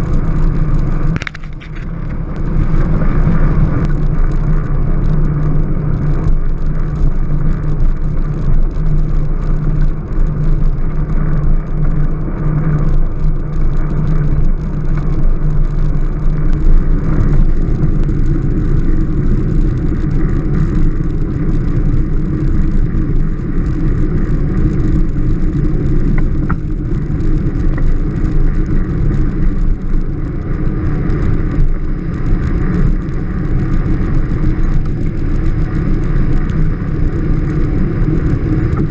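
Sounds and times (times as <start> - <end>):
rumble of tyres and drivetrain: 0.0 - 38.9.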